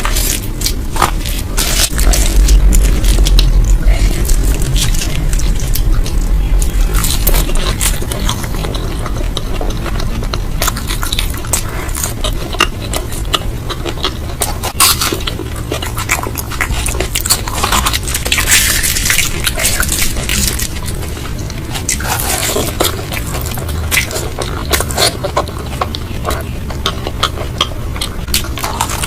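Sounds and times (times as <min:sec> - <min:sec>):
crackly crunching: 0:00.0 - 0:29.0
wet chewing clicks and crunches: 0:00.0 - 0:29.0.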